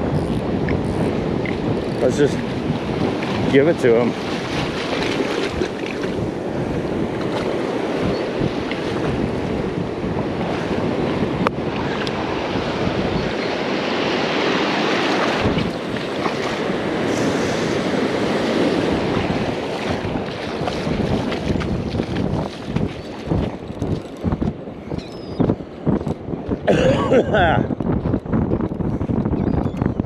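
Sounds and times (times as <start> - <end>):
ocean surf washing onto beach: 0.0 - 24.8
wind buffeting microphone: 0.0 - 30.0.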